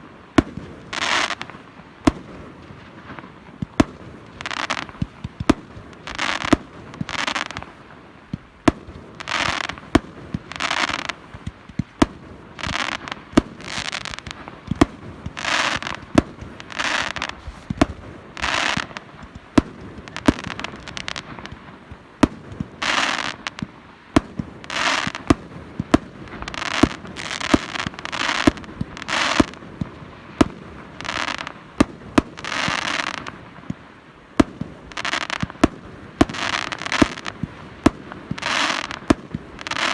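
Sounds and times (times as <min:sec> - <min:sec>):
fireworks bangs: 0:00.0 - 0:39.9
fireworks hissing bursts: 0:00.0 - 0:39.9.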